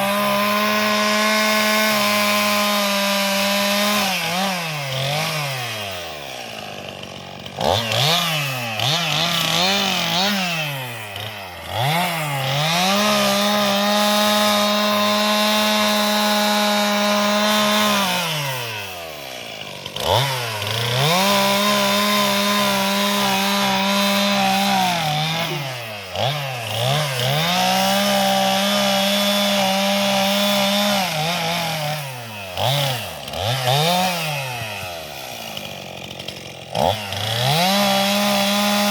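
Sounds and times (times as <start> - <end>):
chainsaw cutting tree limbs: 0.0 - 38.9
chainsaw idling: 0.0 - 38.9.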